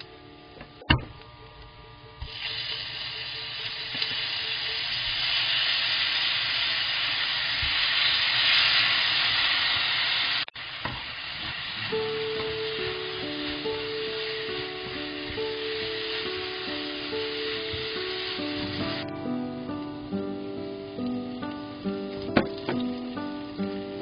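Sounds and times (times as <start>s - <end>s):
food sizzling in a frying pan: 2.2s - 24.0s.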